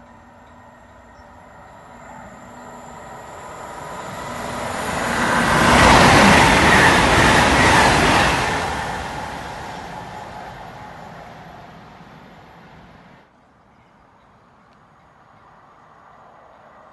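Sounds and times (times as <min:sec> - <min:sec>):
train passing at speed: 0:00.0 - 0:16.9.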